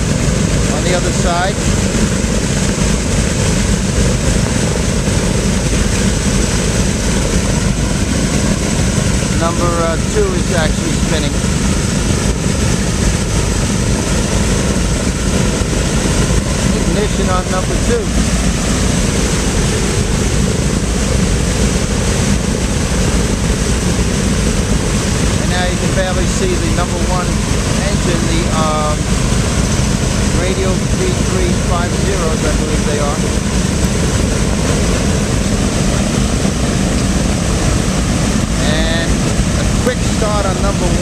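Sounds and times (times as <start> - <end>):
propeller aircraft engines running: 0.0 - 41.0.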